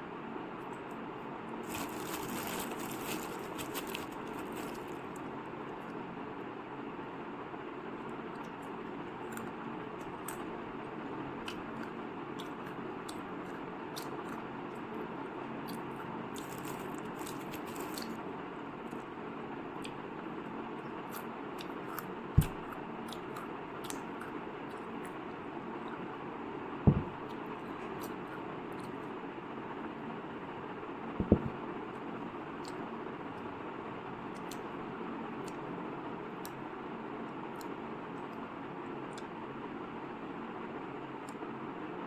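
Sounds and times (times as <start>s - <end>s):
steady background noise: 0.0s - 42.0s.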